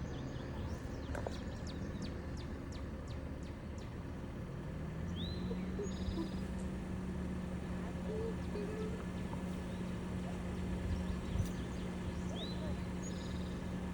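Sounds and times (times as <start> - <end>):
songbirds chirping: 0.0 - 13.9.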